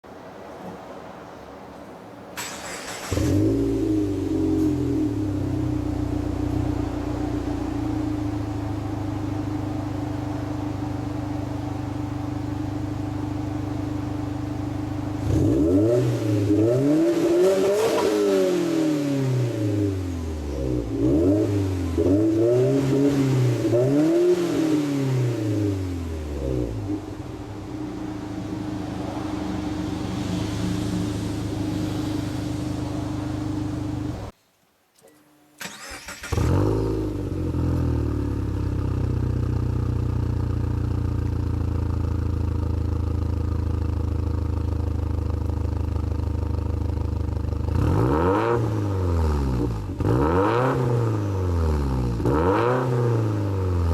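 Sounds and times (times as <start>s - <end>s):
car engine revving and idling: 2.6s - 34.3s, 35.6s - 53.9s.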